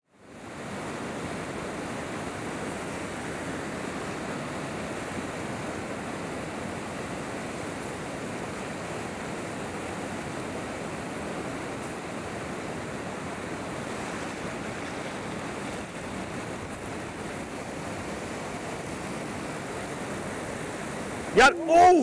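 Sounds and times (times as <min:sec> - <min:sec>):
river water rushing over rocks: 0:00.1 - 0:22.0.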